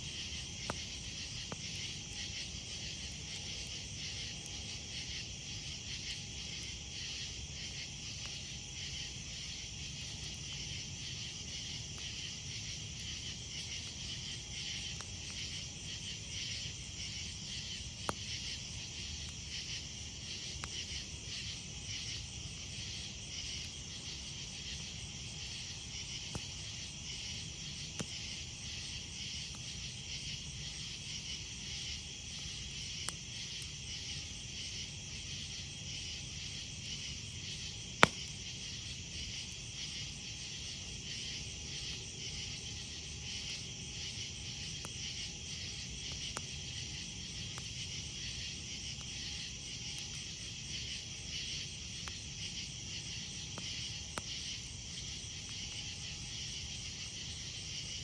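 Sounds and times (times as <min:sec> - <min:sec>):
campfire crackling pops: 0:00.0 - 0:57.7
crickets chirping: 0:00.0 - 0:58.0.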